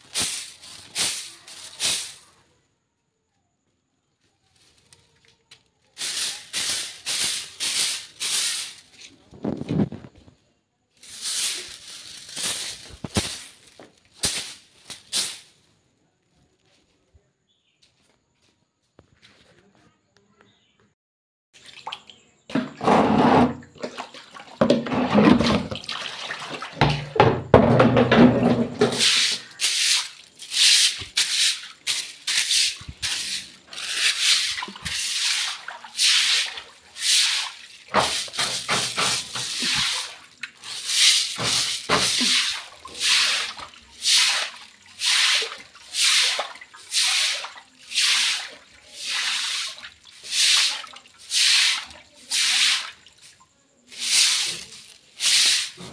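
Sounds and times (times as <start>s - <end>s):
scrubbing strokes on wet floor: 0.0s - 2.4s, 5.8s - 10.1s, 11.0s - 15.5s, 21.6s - 55.9s
water splashing on hard floor: 0.0s - 2.4s, 4.6s - 10.2s, 11.0s - 15.6s, 21.6s - 55.9s.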